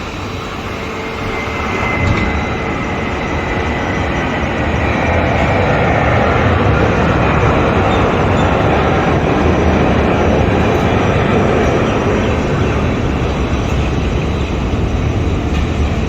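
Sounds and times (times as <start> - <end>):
aircraft mechanical running noise: 0.0 - 16.0.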